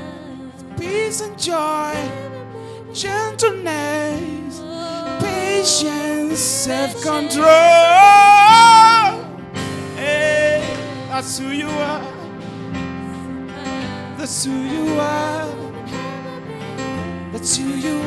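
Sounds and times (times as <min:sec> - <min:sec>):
person singing with vibrato: 0:00.0 - 0:18.0
sustained instrumental backing: 0:00.0 - 0:18.0.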